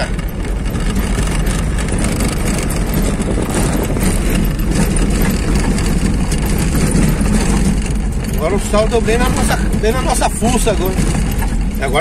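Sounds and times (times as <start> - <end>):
car engine and tyre noise: 0.0 - 12.0
rattles from bumps: 0.0 - 12.0.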